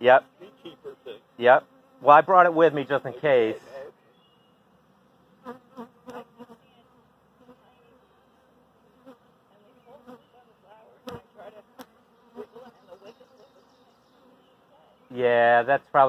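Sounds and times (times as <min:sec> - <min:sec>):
bees buzzing past: 0:00.0 - 0:15.4
bee swarm humming: 0:00.0 - 0:15.6.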